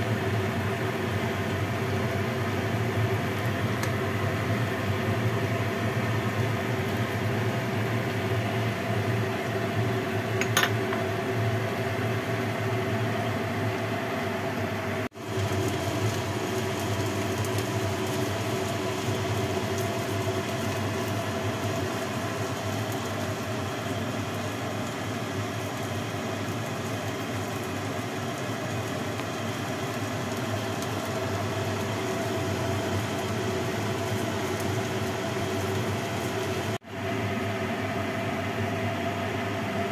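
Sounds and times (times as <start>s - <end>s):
exhaust fan whirring: 0.0s - 39.9s.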